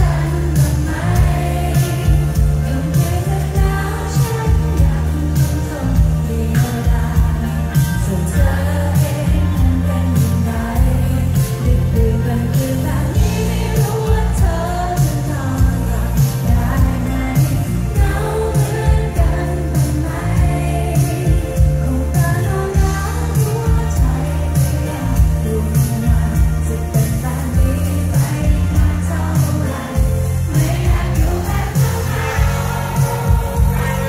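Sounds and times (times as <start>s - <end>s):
drums: 0.0s - 34.0s
heavy bass: 0.0s - 34.0s
woman singing lead: 0.0s - 34.0s.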